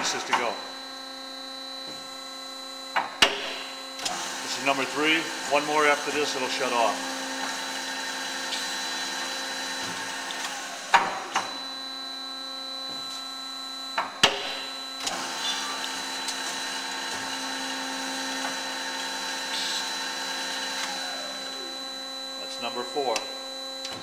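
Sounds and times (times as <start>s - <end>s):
band saw hum with whine: 0.0s - 24.0s.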